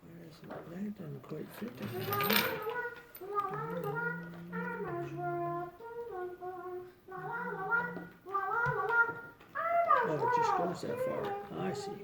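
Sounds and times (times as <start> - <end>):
child singing: 1.8 - 12.0.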